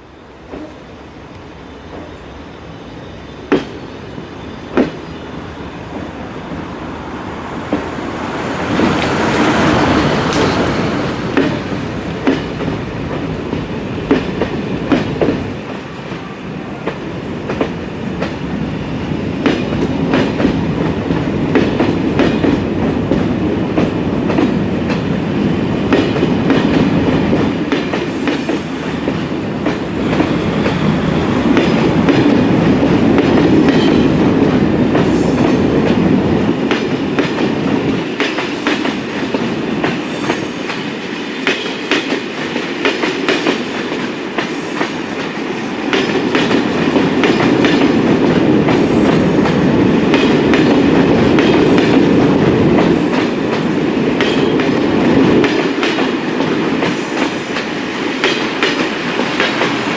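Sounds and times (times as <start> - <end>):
train coaches rumbling past: 0.0 - 59.9.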